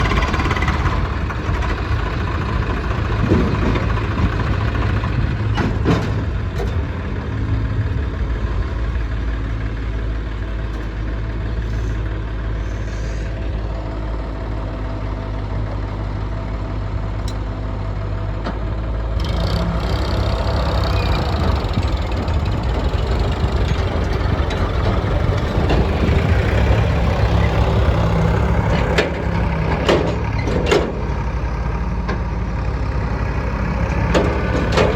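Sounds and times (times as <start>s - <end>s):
diesel engines running: 0.0s - 34.9s.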